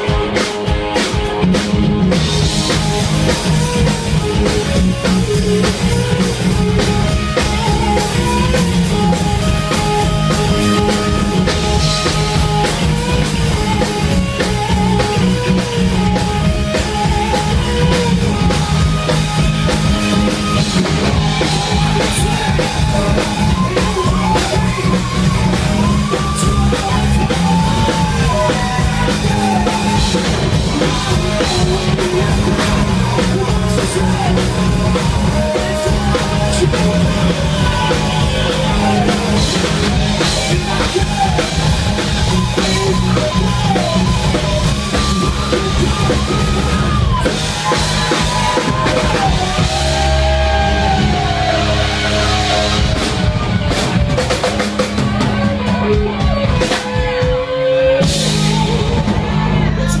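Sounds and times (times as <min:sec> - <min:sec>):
bass: 0:00.0 - 1:00.0
driving drum kit: 0:00.0 - 1:00.0
electric guitars: 0:00.0 - 1:00.0
gliding lead melody: 0:00.0 - 1:00.0.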